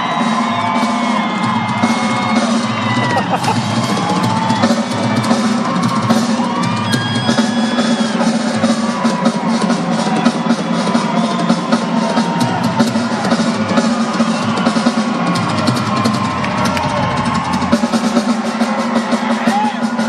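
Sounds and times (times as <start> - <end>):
crowd whistling and shouting: 0.0 - 20.0
rock drum kit playing: 0.0 - 20.0.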